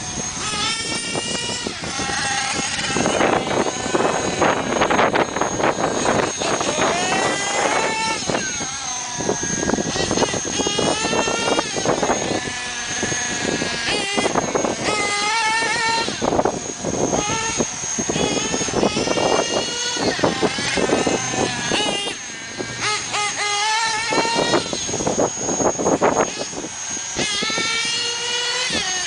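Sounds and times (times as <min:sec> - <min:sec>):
high-revving model motor: 0:00.0 - 0:29.0
thin high whine: 0:00.0 - 0:29.0.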